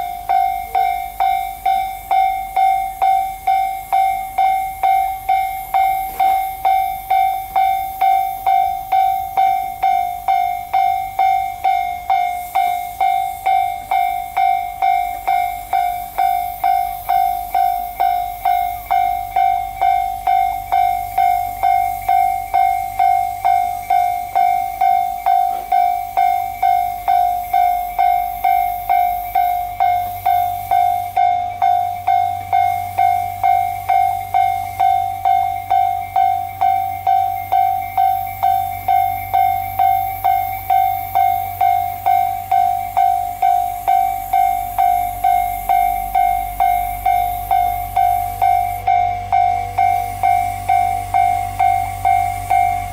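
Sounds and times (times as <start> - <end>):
level crossing warning bell dinging: 0.0 - 52.9
low steady rumble: 0.0 - 52.9.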